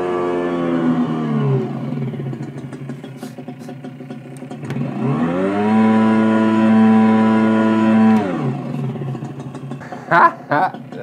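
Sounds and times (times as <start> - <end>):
simulated motorbike engine sound: 0.0 - 11.0.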